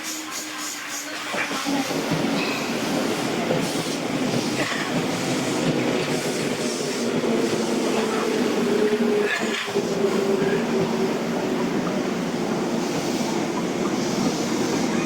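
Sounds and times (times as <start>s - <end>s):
train rail and wheel noise: 0.0s - 15.0s.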